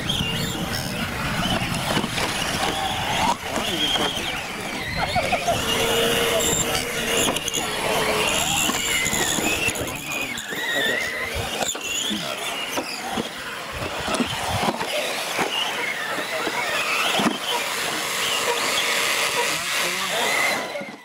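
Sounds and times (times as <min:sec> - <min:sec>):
toy truck motor whine: 0:00.0 - 0:21.0.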